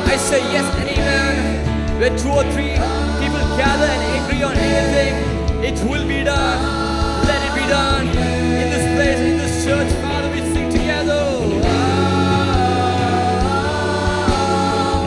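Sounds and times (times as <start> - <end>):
band playing with bass: 0.0 - 15.0
person singing into a microphone: 0.0 - 15.0.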